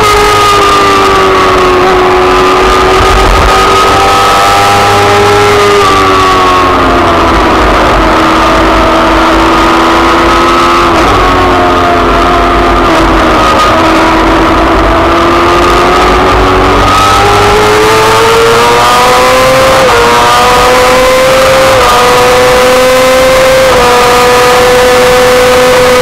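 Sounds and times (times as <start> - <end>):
racing sidecar engine: 0.0 - 26.0
rushing wind and road noise: 0.0 - 26.0.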